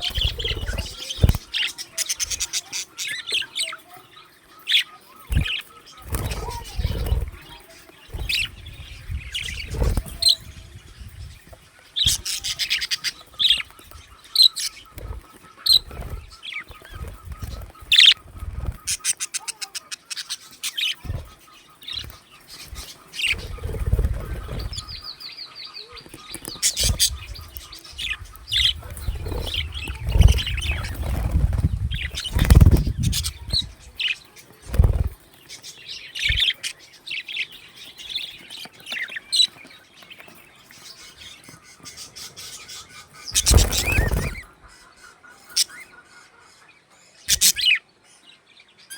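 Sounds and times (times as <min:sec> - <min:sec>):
wing flutters: 0:00.0 - 0:03.0, 0:05.2 - 0:25.2, 0:26.0 - 0:36.8, 0:38.4 - 0:44.6
budgerigars chirping: 0:00.0 - 0:47.9.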